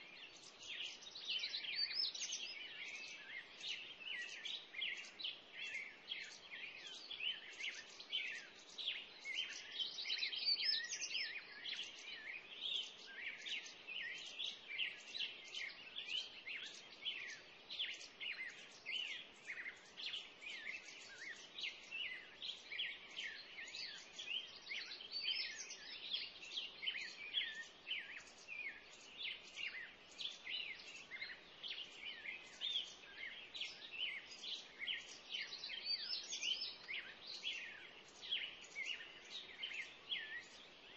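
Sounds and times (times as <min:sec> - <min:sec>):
birds chirping: 0:00.0 - 0:40.9
faint background noise: 0:00.0 - 0:40.9.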